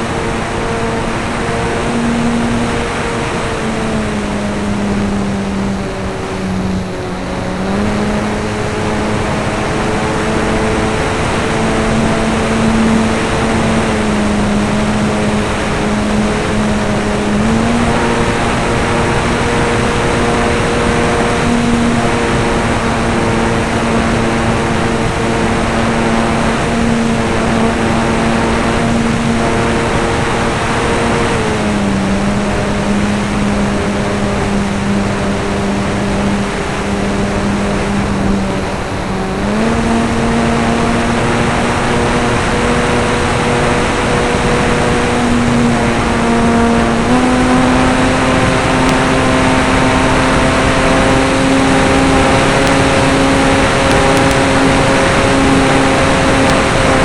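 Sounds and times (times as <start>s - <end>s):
rushing air: 0.0s - 49.4s
model airplane motor droning: 0.0s - 57.0s.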